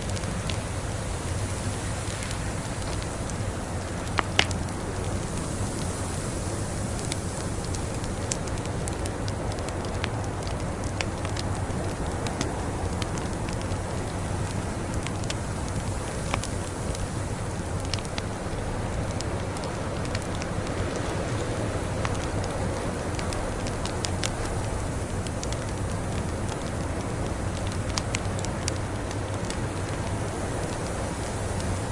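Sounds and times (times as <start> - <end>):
fire snaps: 0.0 - 31.9
wood fire crackling: 0.0 - 31.9.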